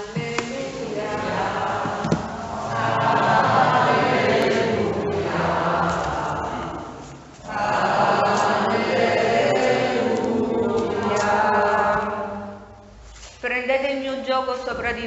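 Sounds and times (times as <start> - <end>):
choir singing chant: 0.0 - 12.8.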